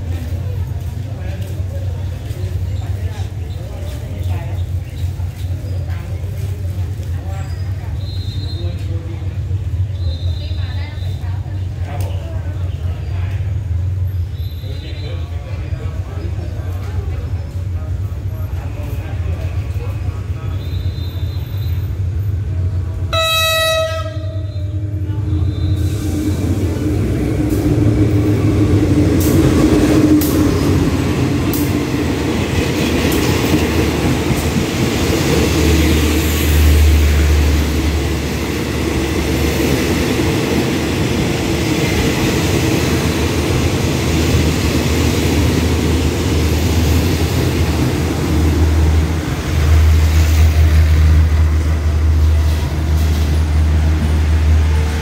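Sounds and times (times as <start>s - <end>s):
train coaches rolling: 0.0s - 55.0s.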